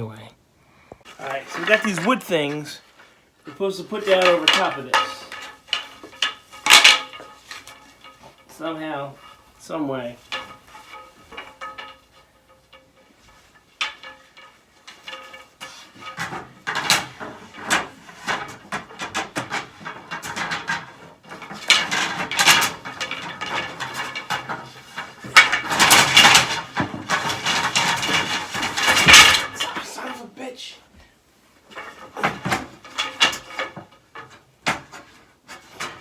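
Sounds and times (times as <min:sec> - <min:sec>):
wooden slats clattering: 0:01.1 - 0:02.7, 0:03.6 - 0:30.2, 0:31.6 - 0:36.0.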